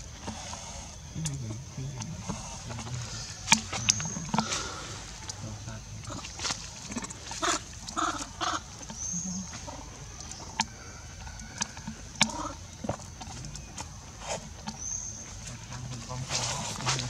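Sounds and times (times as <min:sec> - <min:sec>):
bird chirp: 0:00.0 - 0:17.0
high insect whine: 0:00.0 - 0:17.0
baby monkeys squeaking: 0:00.9 - 0:17.0.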